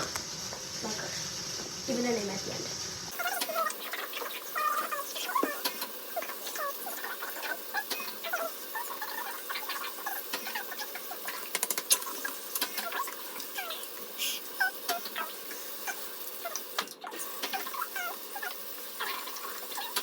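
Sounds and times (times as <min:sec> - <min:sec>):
small animals squeaking: 0:03.1 - 0:20.0.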